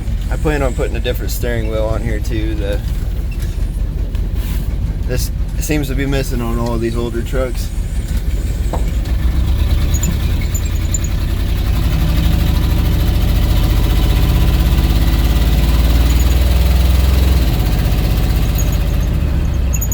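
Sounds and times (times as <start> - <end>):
engine running heard from cab: 0.0 - 19.9.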